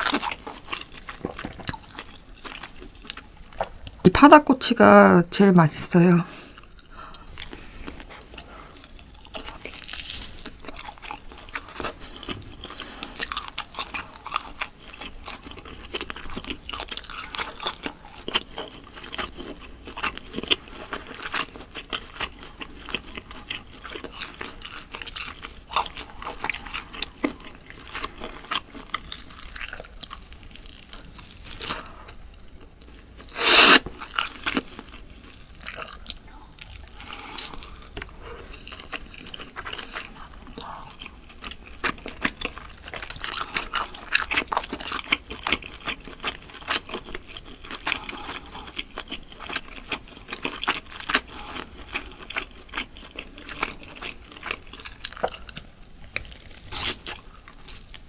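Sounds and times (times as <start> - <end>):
wet crunchy chewing: 0.0 - 4.0, 6.4 - 58.0.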